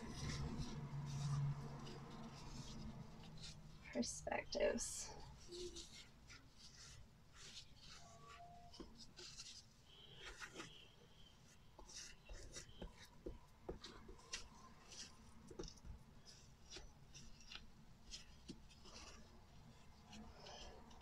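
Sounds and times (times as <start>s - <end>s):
spatula scraping damp powder: 0.0s - 21.0s.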